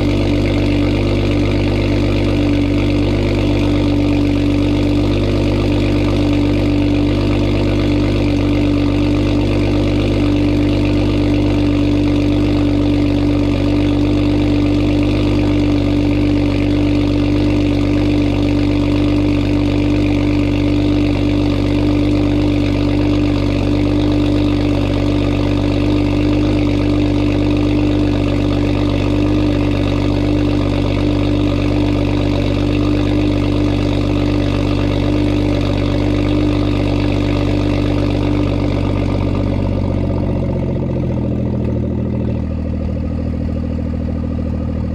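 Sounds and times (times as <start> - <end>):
car engine idling loudly: 0.0 - 44.9.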